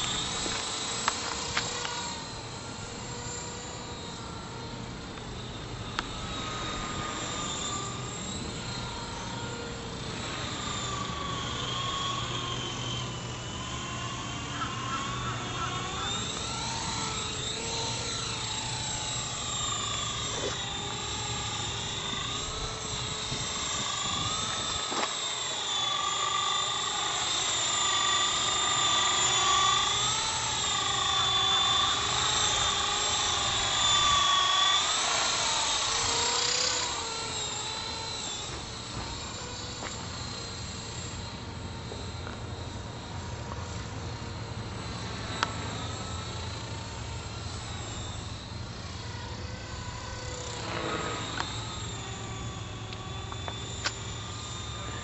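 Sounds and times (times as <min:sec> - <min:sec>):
radio-controlled helicopter whine: 0:00.0 - 0:55.0.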